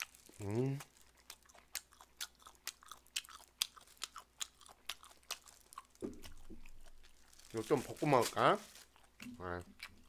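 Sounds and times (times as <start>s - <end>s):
chewing and biting: 0.0s - 10.0s.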